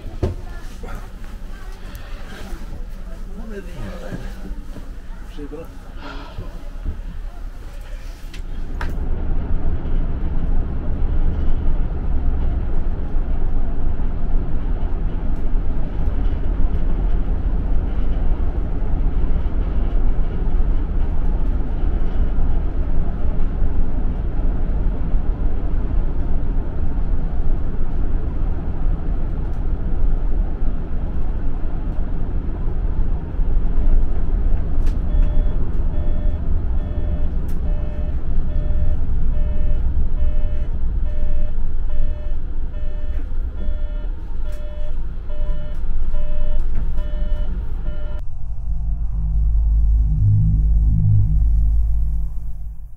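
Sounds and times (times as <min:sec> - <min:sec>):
vehicle engine rumble: 0:00.0 - 0:52.9.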